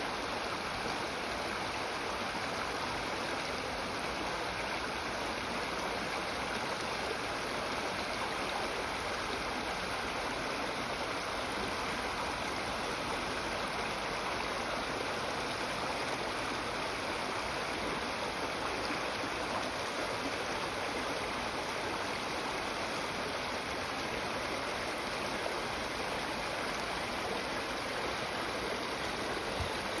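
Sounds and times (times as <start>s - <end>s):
creek water flowing: 0.0s - 30.0s.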